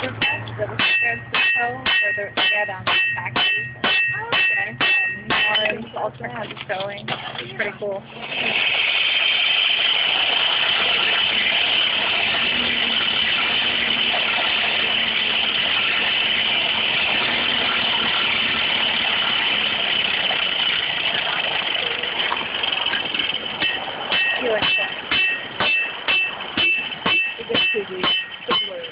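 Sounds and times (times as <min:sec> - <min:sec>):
steady machine noise: 0:00.0 - 0:28.9.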